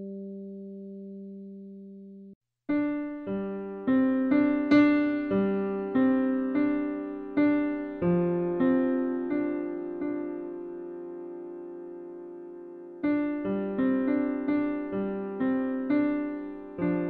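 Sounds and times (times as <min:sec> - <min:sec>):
piano music: 0:00.0 - 0:02.1, 0:02.7 - 0:17.0.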